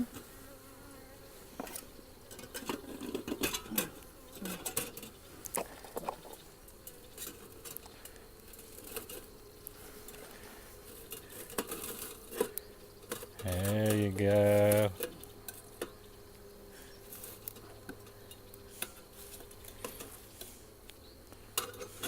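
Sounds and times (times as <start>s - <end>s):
honeybees humming: 0.0s - 22.0s.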